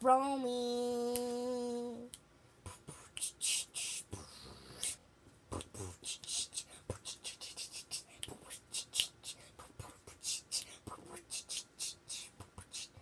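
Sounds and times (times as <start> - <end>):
child beatboxing: 0.0 - 13.0.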